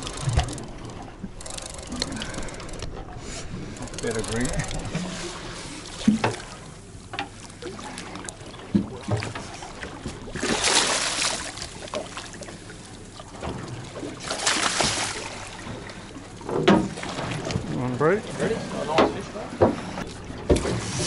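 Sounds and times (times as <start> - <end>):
fish splashing and thrashing: 0.0 - 18.4
sea noise: 0.0 - 21.0
wind: 0.0 - 21.0.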